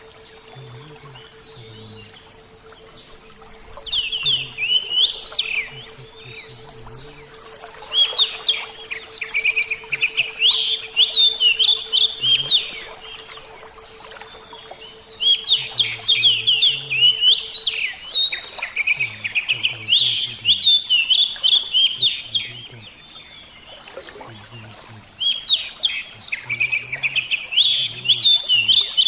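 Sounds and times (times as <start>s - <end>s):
bird singing chirps and whistles: 0.0s - 29.0s.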